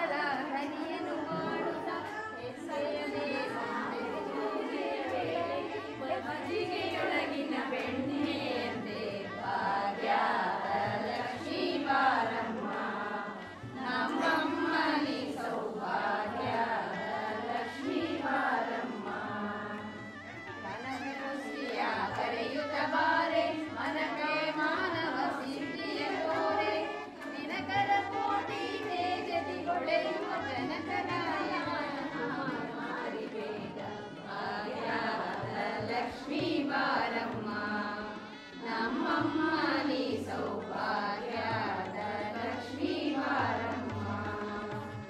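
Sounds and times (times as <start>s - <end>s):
group singing a devotional chant: 0.0s - 45.0s.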